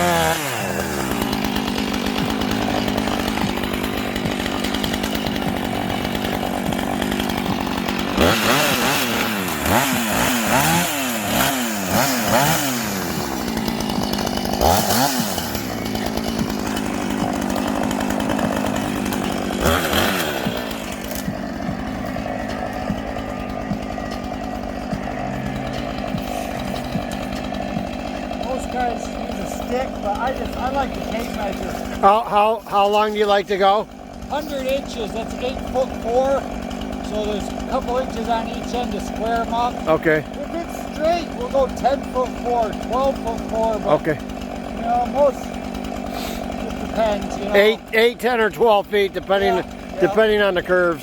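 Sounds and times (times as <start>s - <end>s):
chainsaw engine revving: 0.0s - 51.0s.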